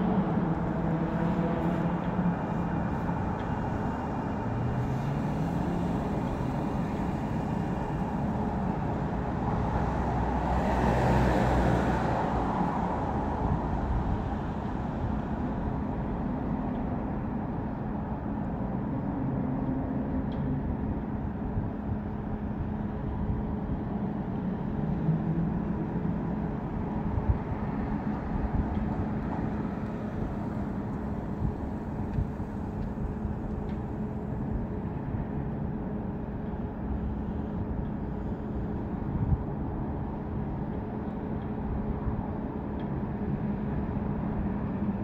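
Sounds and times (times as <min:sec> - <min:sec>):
vehicle rumble: 0:00.0 - 0:45.0.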